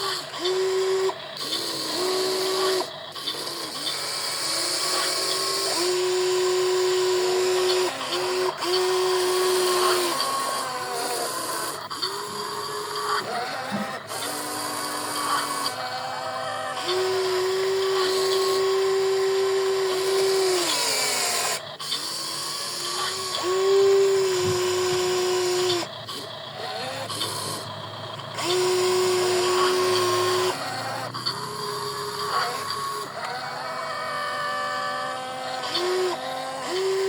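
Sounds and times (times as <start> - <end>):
small electric motors whining: 0.0 - 37.0.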